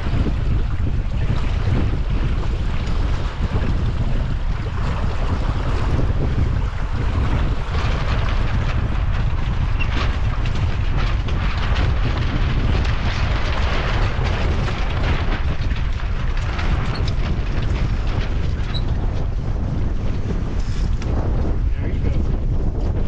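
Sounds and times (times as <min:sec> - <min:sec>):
water splashing along hull: 0:00.0 - 0:23.0
wind buffeting microphone: 0:00.0 - 0:23.0.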